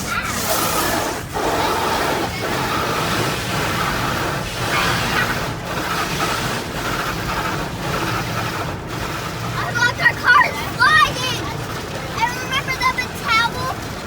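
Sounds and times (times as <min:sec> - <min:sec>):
car wash spraying water: 0:00.0 - 0:14.0.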